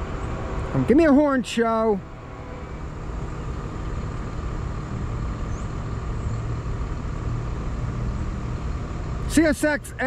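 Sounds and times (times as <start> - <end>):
diesel locomotives rumbling: 0.0 - 10.0.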